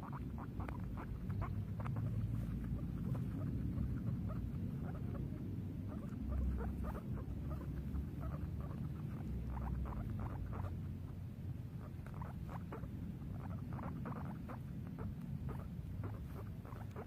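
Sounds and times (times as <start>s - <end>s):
guinea pig squeaking: 0.0s - 17.0s
low steady rumble: 0.0s - 17.0s.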